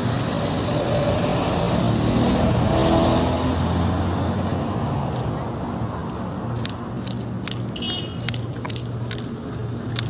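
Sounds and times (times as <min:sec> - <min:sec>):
vehicle engine with road noise: 0:00.0 - 0:10.0.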